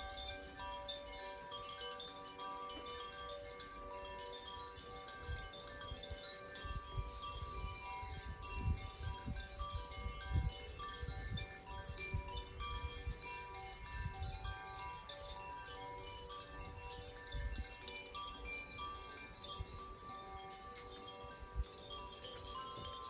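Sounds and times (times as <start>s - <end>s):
wind chimes ringing: 0.0s - 23.0s.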